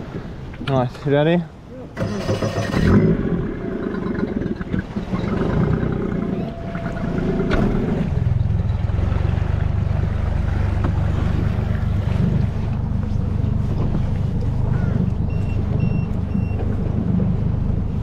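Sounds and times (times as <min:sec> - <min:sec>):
water sloshing along hull: 0:00.0 - 0:18.0
outboard motor running: 0:01.8 - 0:18.0.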